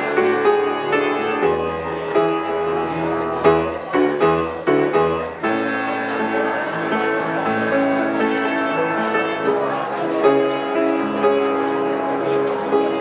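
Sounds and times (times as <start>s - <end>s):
instrumental song interlude: 0.0s - 13.0s.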